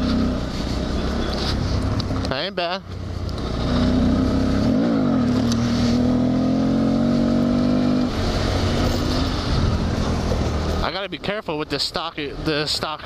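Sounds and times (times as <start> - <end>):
motorcycle engine under throttle: 0.0 - 10.9.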